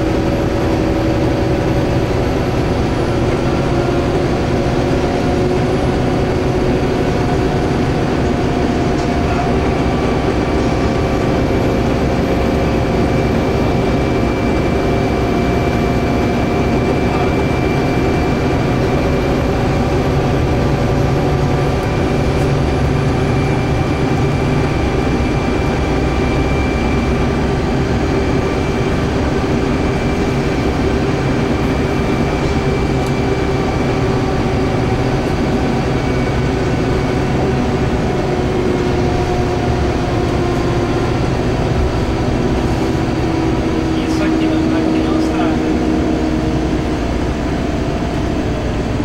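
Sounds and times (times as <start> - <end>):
bus engine drone: 0.0 - 49.0
road and tyre noise: 0.0 - 49.0.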